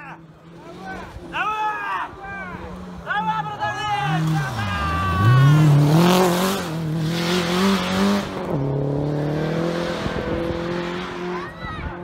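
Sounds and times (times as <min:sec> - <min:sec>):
rally car engine at high revs: 0:02.1 - 0:12.0.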